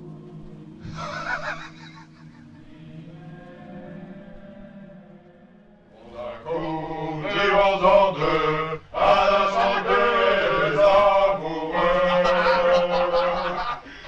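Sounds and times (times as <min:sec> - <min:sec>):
men singing in chorus: 0:00.0 - 0:05.3, 0:06.0 - 0:14.0.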